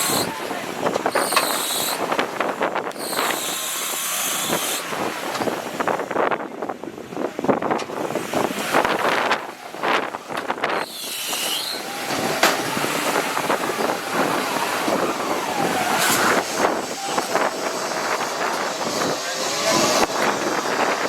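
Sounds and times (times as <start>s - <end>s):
off-road engine revving: 0.0s - 6.3s, 7.0s - 21.0s.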